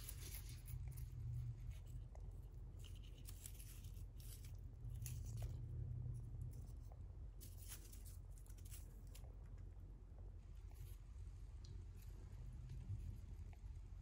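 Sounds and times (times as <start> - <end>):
low steady hum: 0.0 - 14.0
soft rustling and scratching: 0.0 - 14.0.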